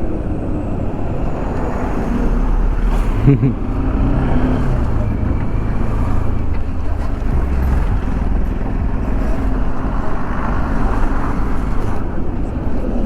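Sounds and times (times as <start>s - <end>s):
vehicle engine and road noise: 0.0s - 13.0s
wind noise on microphone: 0.0s - 13.0s.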